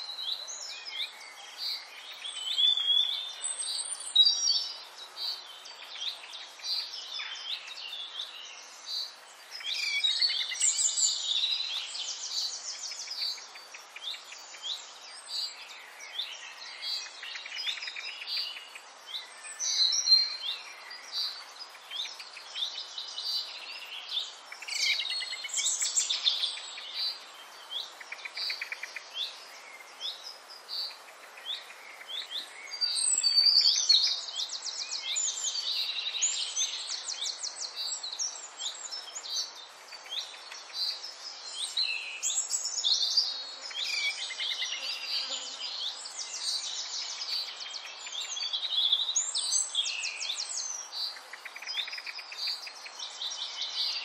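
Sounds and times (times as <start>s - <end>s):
faint steady hiss: 0.0s - 54.0s
small birds chirping and singing: 0.0s - 54.0s.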